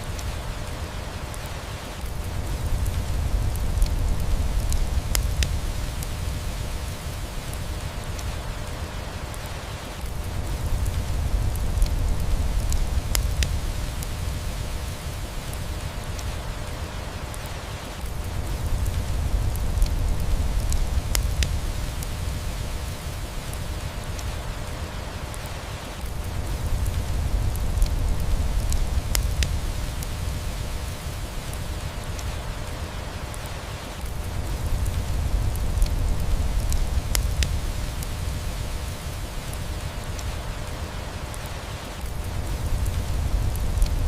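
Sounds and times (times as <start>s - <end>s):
rain hiss: 0.0s - 44.0s
wood fire crackling and popping: 0.0s - 44.0s.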